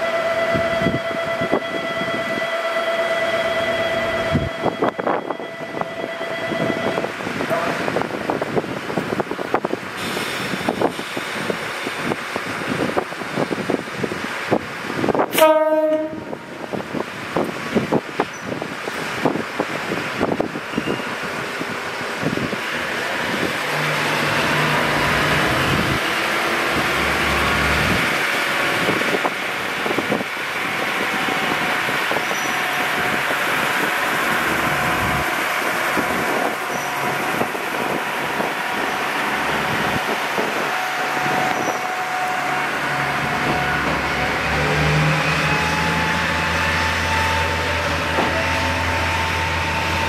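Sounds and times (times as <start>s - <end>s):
diesel train engines: 0.0s - 50.0s
train rolling hiss: 7.3s - 50.0s.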